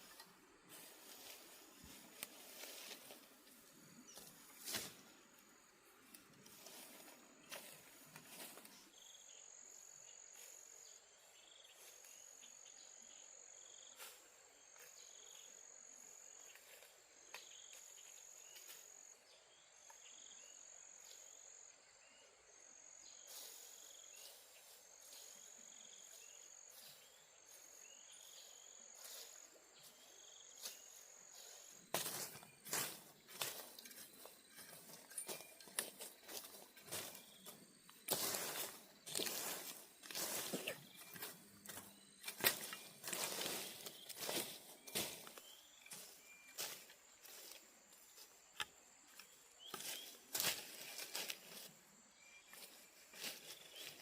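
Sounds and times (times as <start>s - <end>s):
high-pitched insect call: 6.4s - 54.0s.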